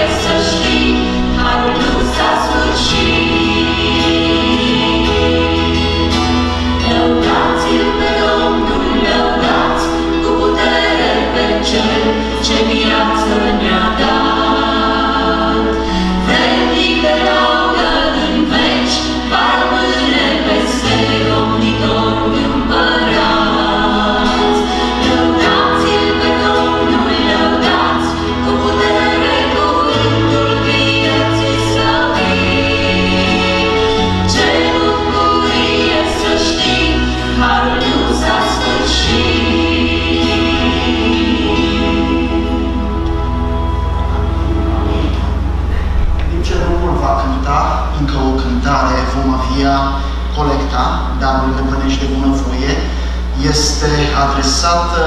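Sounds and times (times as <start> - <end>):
acoustic guitar: 0.0 - 52.1
electric bass low notes: 0.0 - 55.0
group singing gospel in harmony: 0.0 - 55.0.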